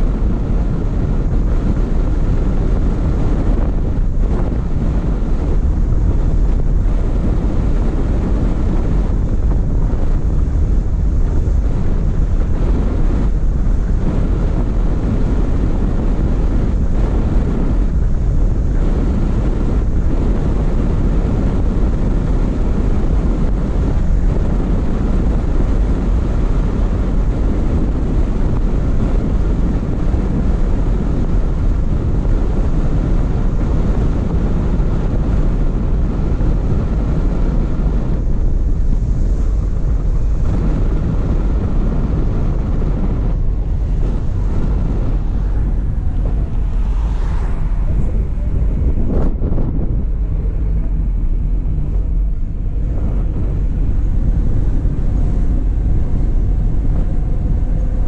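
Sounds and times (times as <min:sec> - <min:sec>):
low road rumble: 0:00.0 - 0:58.0
wind buffeting microphone: 0:00.0 - 0:58.0.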